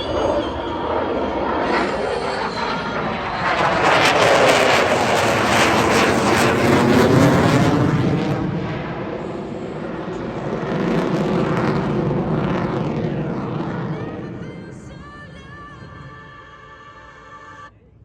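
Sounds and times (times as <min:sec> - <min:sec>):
jet flying past: 0:00.0 - 0:17.3.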